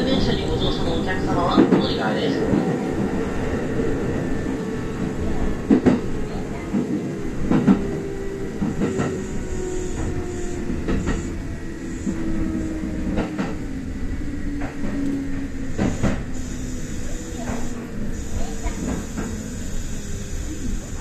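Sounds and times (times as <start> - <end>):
train rumble and whine: 0.0 - 21.0.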